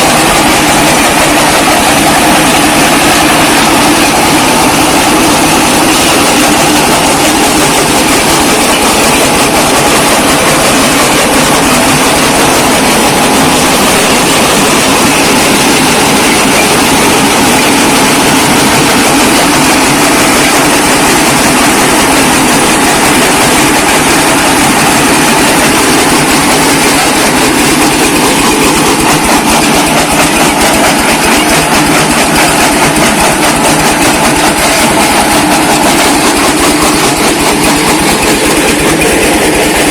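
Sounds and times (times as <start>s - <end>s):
brick-breaking machine clattering: 0.0s - 39.9s.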